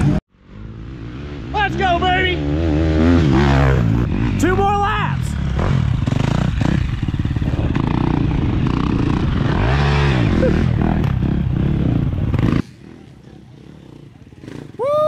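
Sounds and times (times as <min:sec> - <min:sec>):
dirt bike engine riding past: 0:00.0 - 0:15.0.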